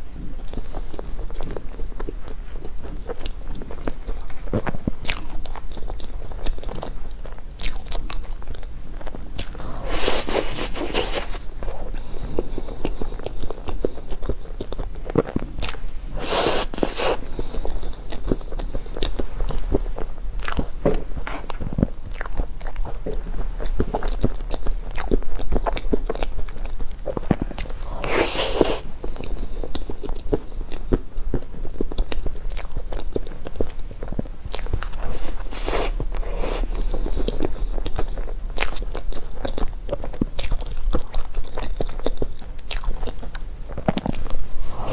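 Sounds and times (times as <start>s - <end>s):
chewing and crunching: 0.1s - 44.9s.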